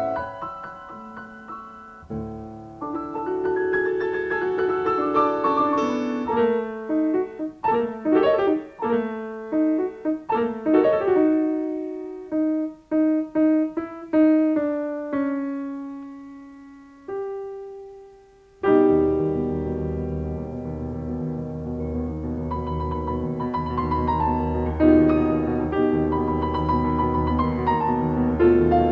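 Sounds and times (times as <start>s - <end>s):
solo piano playing: 0.0s - 28.9s.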